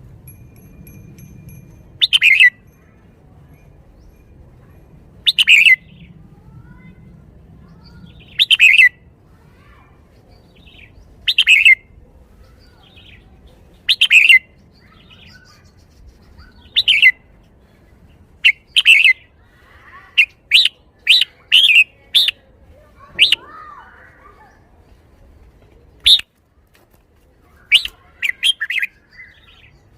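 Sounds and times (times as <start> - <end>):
bird chirping phrases: 2.0 - 26.3, 27.4 - 29.9.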